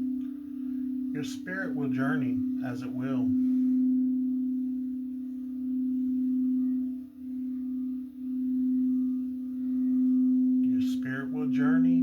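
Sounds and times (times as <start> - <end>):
singing bowl low tone: 0.0 - 12.0.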